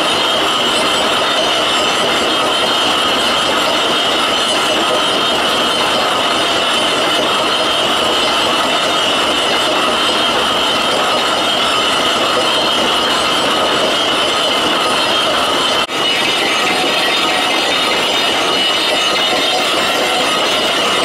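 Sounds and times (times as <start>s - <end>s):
lathe cutting metal with high whine: 0.0s - 21.0s.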